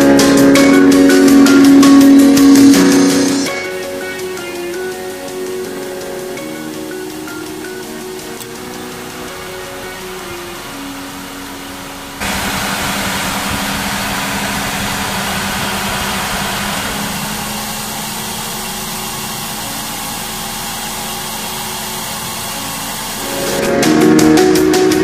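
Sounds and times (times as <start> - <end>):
engine idling: 0.0 - 23.6
electric cooling fan rushing air: 0.0 - 25.0.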